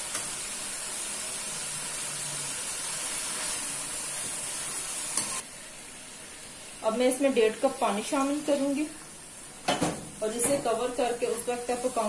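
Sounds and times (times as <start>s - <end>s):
chicken sizzling in ghee: 0.0s - 12.0s.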